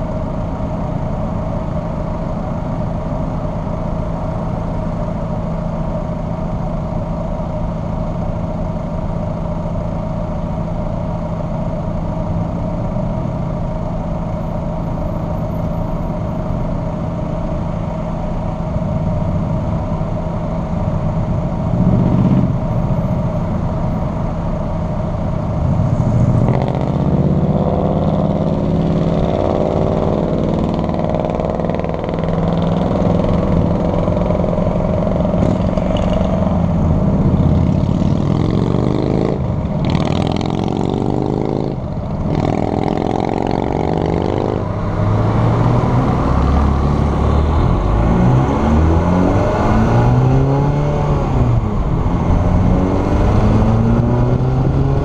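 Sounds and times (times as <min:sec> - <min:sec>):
car engine idling and accelerating: 0:00.0 - 0:55.0.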